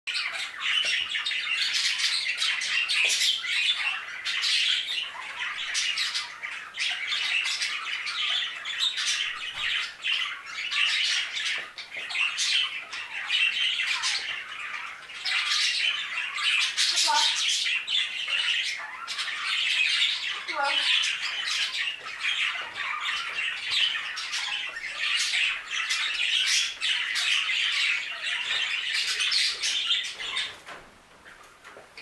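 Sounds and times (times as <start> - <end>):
budgerigars chattering: 0.1 - 30.7.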